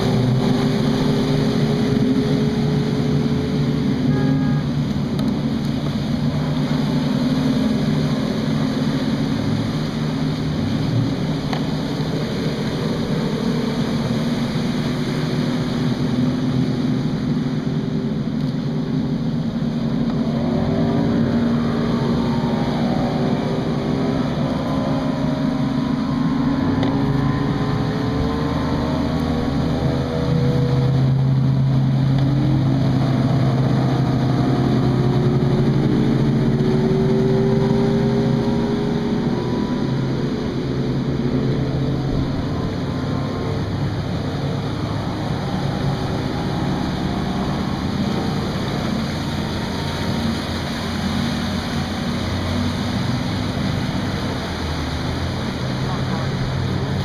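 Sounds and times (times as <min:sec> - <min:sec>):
outboard motors droning: 0:00.0 - 0:57.0
rushing water: 0:00.0 - 0:57.0
wind: 0:00.0 - 0:57.0.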